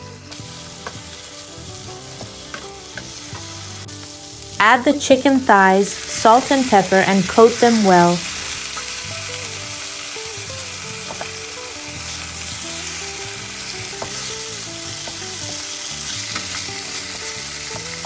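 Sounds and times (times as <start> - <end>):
chicken sizzling in oil: 0.0 - 18.0
soft background music: 0.0 - 18.0.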